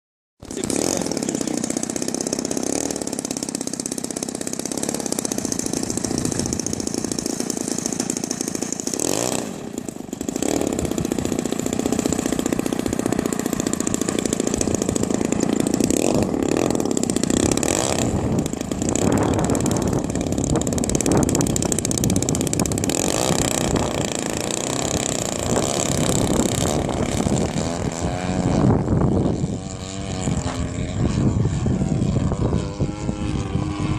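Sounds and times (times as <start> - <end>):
model plane engine running: 0.4 - 33.9.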